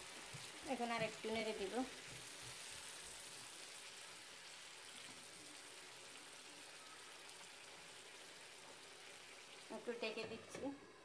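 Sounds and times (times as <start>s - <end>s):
curry simmering in a pan: 0.0s - 11.0s.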